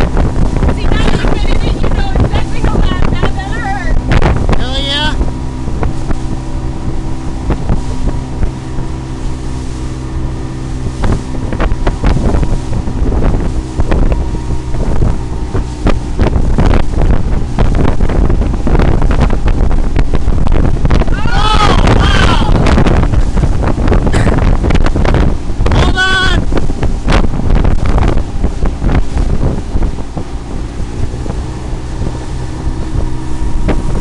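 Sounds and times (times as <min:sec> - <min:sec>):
hull slapping water: 0:00.0 - 0:34.0
motorboat engine running: 0:00.0 - 0:34.0
wind buffeting microphone: 0:00.0 - 0:34.0.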